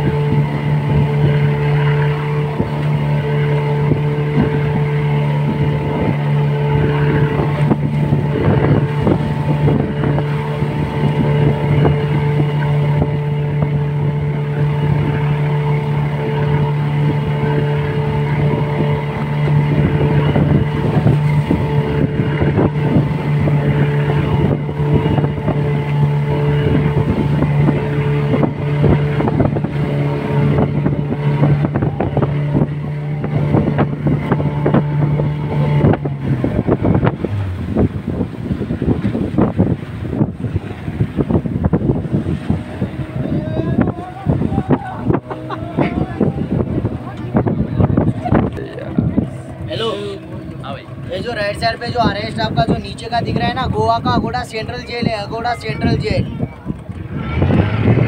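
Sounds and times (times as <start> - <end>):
motorboat engine running: 0.0 - 58.0
water rushing past hull: 0.0 - 58.0
wind on microphone: 0.0 - 58.0.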